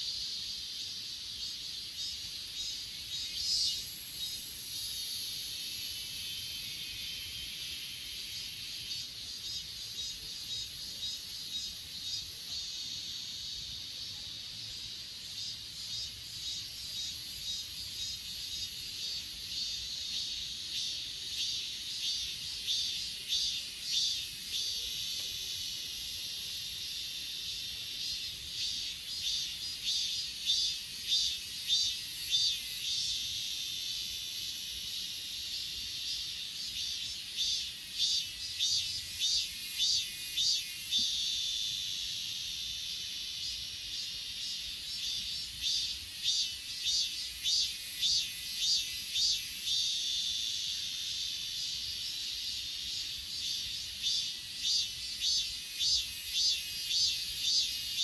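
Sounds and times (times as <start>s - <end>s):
crickets trilling: 0.0s - 58.0s
pulsed insect chirping: 0.1s - 58.0s.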